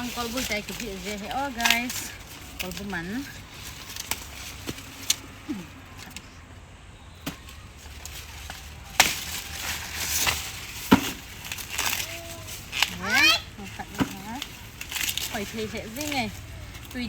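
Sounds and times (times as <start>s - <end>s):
corn stalks snapping: 0.0s - 6.4s, 7.2s - 17.0s
leaves and husks rustling: 0.0s - 17.0s.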